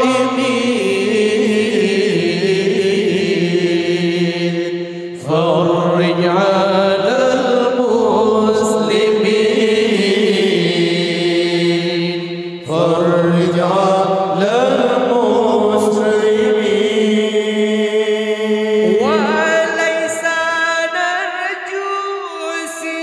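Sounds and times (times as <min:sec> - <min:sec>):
male a cappella group singing: 0:00.0 - 0:23.0.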